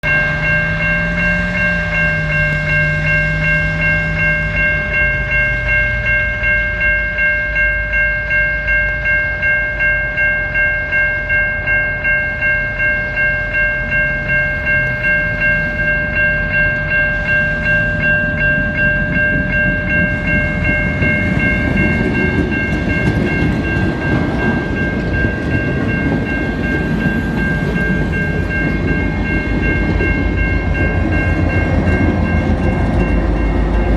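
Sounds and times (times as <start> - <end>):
train bell ringing: 0.0 - 33.9
train rumble and wheel noise: 0.0 - 33.9.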